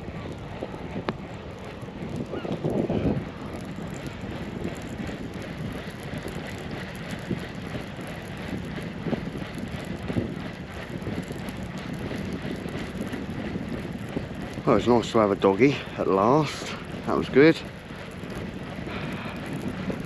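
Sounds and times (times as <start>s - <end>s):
steady low rumble: 0.0s - 20.0s
wind buffeting microphone: 0.0s - 20.0s
fishing reel ticking: 0.2s - 20.0s.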